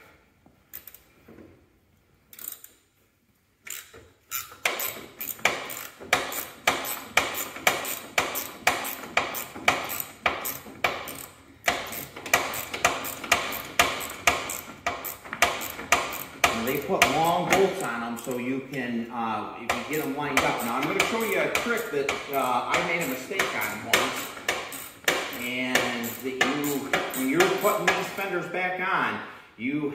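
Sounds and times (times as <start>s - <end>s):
hand ratchet wrench clicking: 0.7s - 1.1s, 2.3s - 2.8s, 3.6s - 18.4s, 19.7s - 28.2s.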